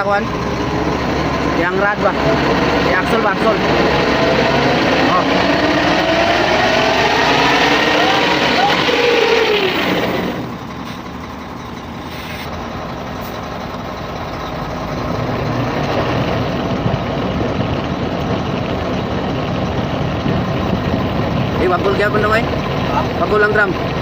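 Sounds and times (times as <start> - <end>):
truck running with low hum: 0.0 - 24.0.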